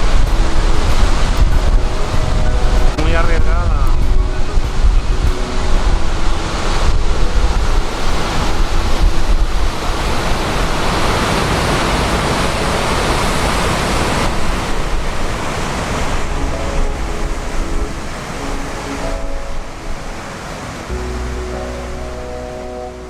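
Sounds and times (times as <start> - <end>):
waterfall rushing: 0.0 - 23.0
wind on microphone: 0.0 - 23.0.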